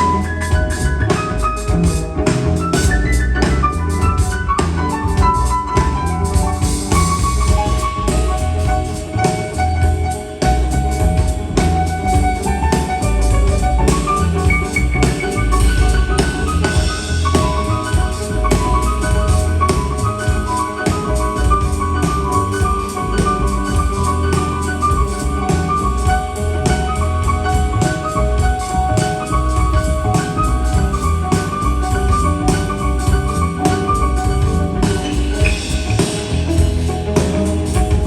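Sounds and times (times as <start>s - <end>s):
drum kit: 0.0s - 38.0s
piano: 0.0s - 38.0s.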